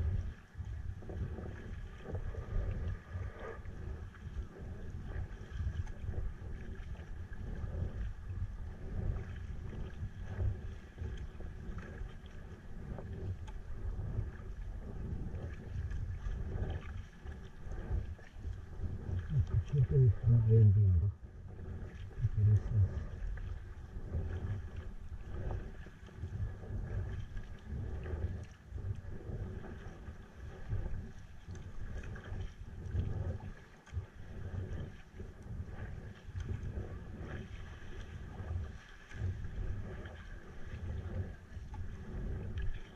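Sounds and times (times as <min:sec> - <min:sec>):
water splashing against hull: 0:00.0 - 0:42.9
wind rumbling on microphone: 0:00.0 - 0:42.9.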